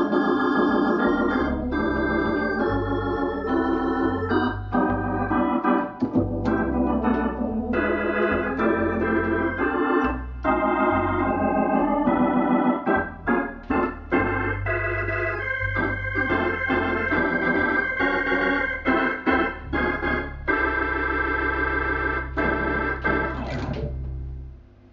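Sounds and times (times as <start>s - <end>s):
organ playing chords: 0.0s - 24.8s.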